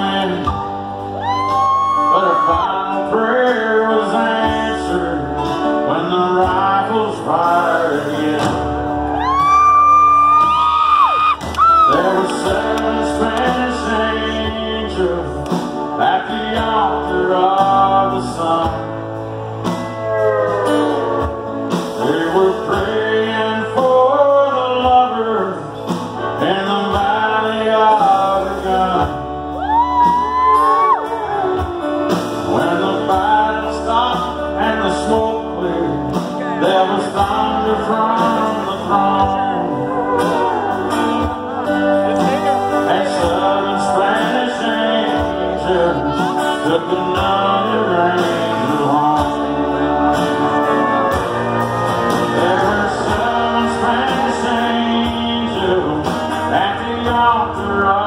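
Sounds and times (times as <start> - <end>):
drums: 0.0 - 58.0
electric and acoustic guitars: 0.0 - 58.0
keyboards: 0.0 - 58.0
organ: 0.0 - 58.0
sliding lead melody: 0.0 - 58.0
steady bass: 0.0 - 58.0.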